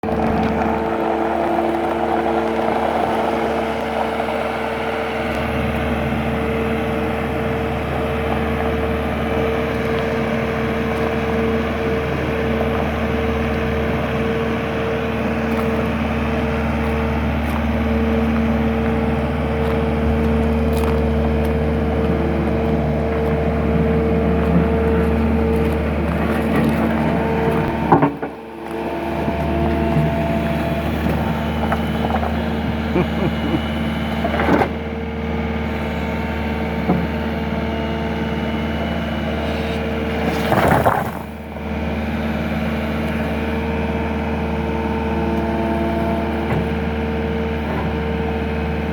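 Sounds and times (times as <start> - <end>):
skid-steer loader running: 0.0 - 48.9.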